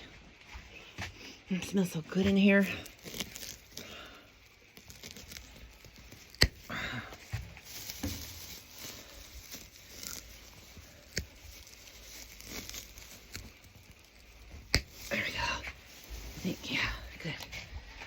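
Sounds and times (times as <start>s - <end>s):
hay rustling and tearing: 1.7s - 18.0s.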